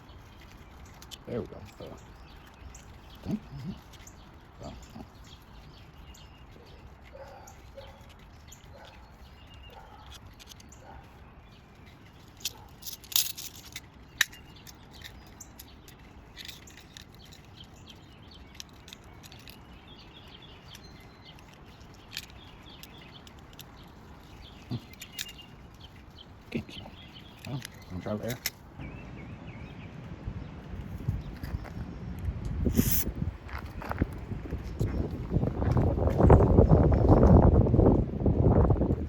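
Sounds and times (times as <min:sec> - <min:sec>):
faint birds chirping: 0:00.0 - 0:39.0.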